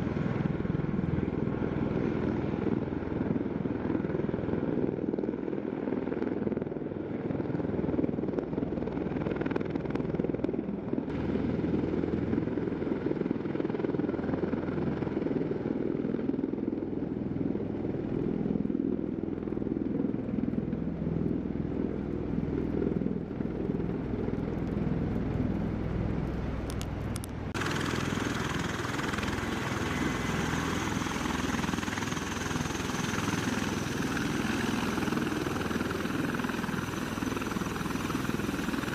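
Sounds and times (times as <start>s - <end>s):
tiltrotor aircraft running: 0.0s - 38.9s.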